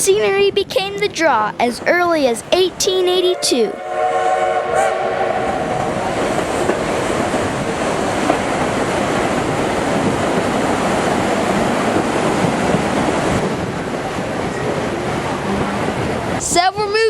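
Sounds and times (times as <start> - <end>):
steam train running on track: 0.0 - 17.0.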